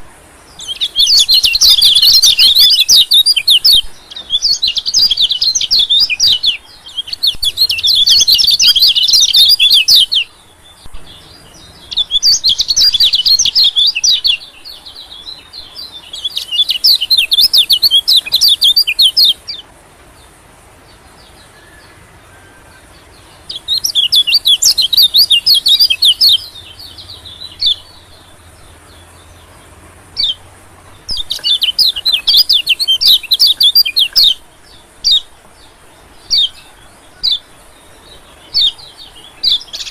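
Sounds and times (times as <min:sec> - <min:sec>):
bird twittering chirps: 0:00.0 - 0:39.9.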